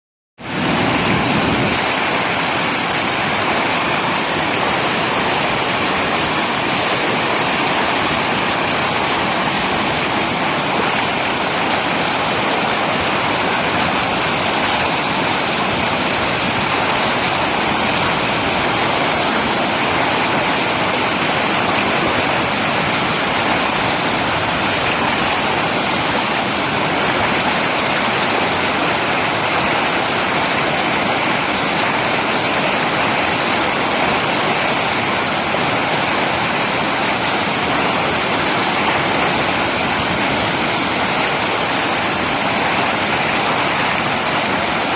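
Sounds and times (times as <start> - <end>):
whitewater rushing: 0.4 - 44.9.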